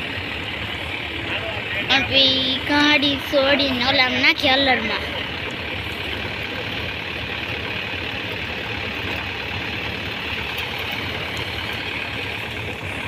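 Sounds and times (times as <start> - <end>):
huller machine drone: 0.0 - 13.0
low engine hum: 0.0 - 13.0.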